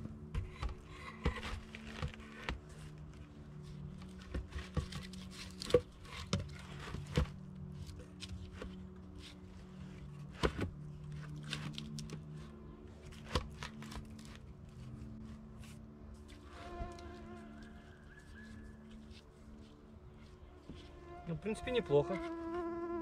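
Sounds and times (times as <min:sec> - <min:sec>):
wooden knocks and scrapes of logs: 0:00.0 - 0:17.2, 0:18.1 - 0:21.0.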